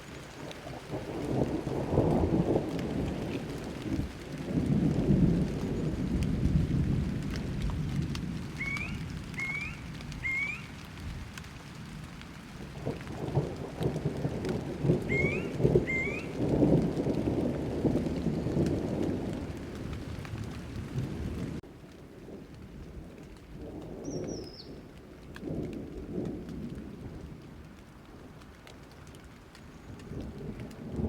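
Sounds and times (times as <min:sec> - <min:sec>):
thunder rumbling: 0:00.0 - 0:28.5, 0:30.0 - 0:31.0
rain falling: 0:00.0 - 0:31.0.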